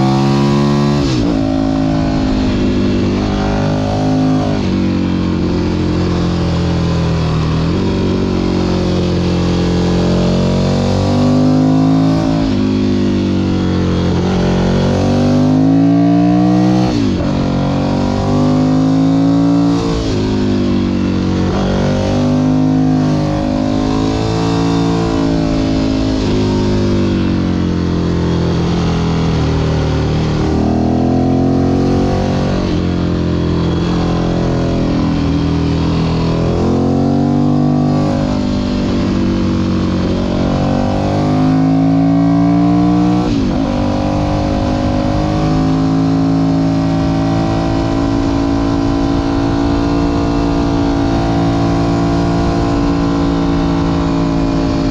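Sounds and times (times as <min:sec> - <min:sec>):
motorcycle engine revving: 0:00.0 - 0:54.9
wind noise: 0:00.0 - 0:54.9.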